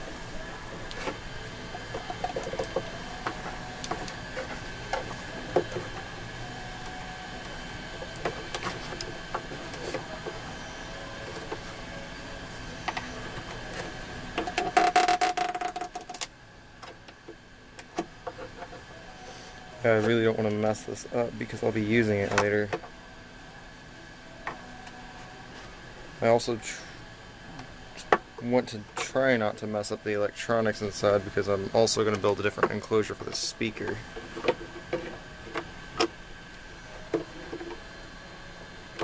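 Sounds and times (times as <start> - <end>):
faint steady whine: 0.0 - 39.0.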